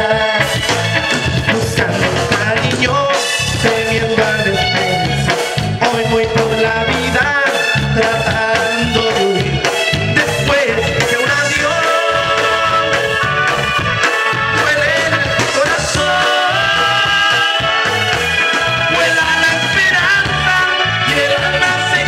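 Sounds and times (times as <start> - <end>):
drums: 0.0 - 22.0
electric bass: 0.0 - 22.0
keyboard melody: 0.0 - 22.0.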